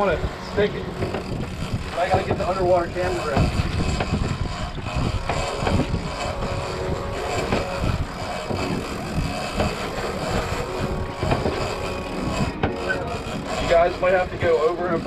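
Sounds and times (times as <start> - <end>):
wind noise: 0.0 - 14.5
outboard motors running: 0.0 - 15.0.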